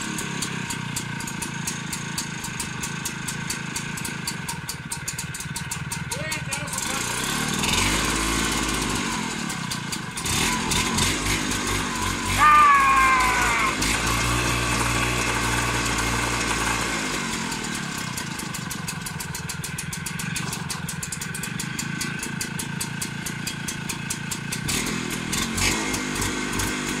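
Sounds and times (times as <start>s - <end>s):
mower engine running: 0.0s - 27.0s.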